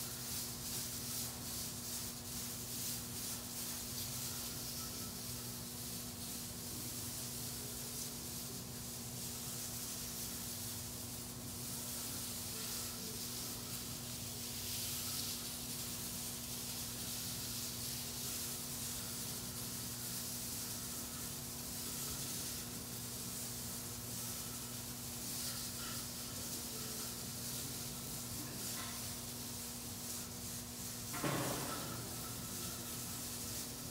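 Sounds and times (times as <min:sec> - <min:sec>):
steady hiss: 0:00.0 - 0:33.9.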